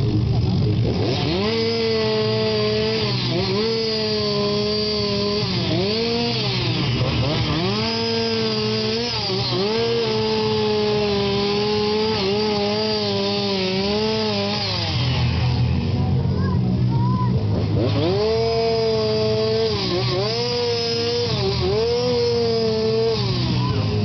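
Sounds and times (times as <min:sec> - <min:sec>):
chainsaw cutting wood: 0:00.0 - 0:24.0.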